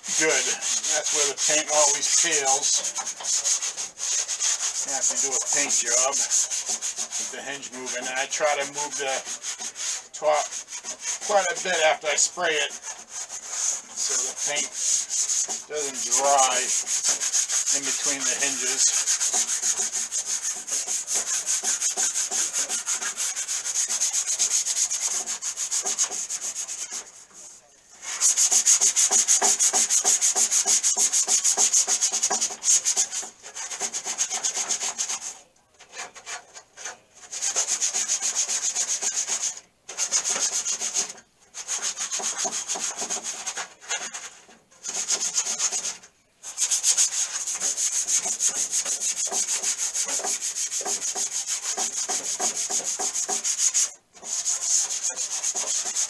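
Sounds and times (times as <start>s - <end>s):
sanding sponge scrubbing metal: 0.0s - 56.0s.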